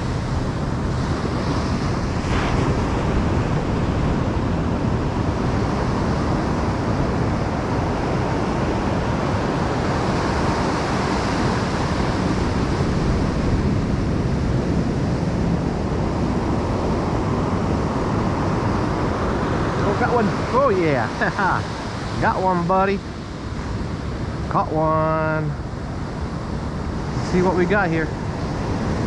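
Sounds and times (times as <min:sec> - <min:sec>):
ocean surf breaking on beach: 0:00.0 - 0:29.0
wind rumbling on microphone: 0:00.0 - 0:29.0.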